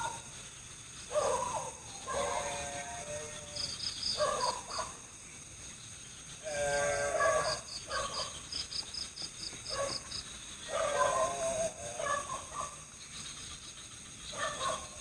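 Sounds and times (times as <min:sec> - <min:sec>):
frogs croaking: 0:00.0 - 0:15.0
high hum of insects: 0:00.0 - 0:15.0
high insect chirps: 0:00.0 - 0:15.0.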